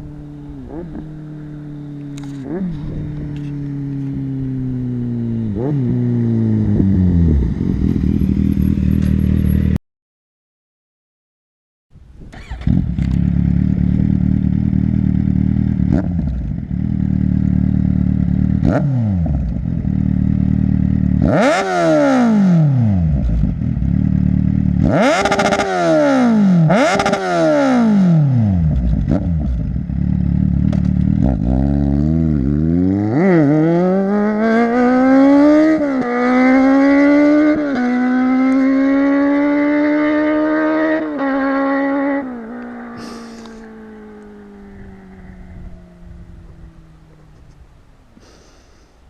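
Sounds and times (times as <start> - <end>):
motorcycle accelerating through gears: 0.0 - 9.8, 12.3 - 47.6
motorcycle engine revving: 0.0 - 9.8, 12.3 - 47.7.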